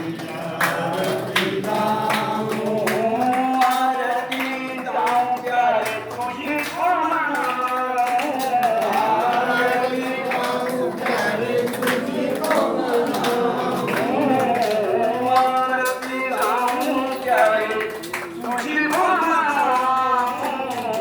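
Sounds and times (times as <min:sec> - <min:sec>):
percussion beat: 0:00.0 - 0:21.0
person singing a hymn: 0:00.0 - 0:21.0.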